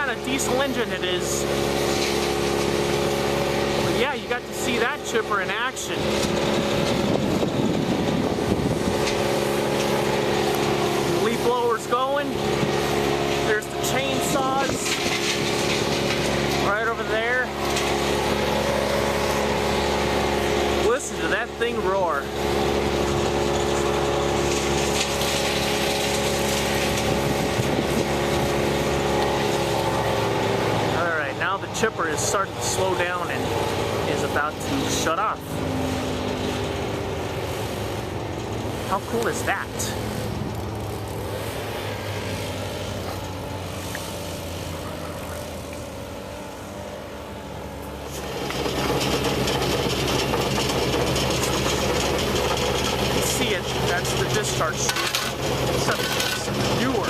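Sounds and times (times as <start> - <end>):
wood chipper roaring: 0.0 - 57.0.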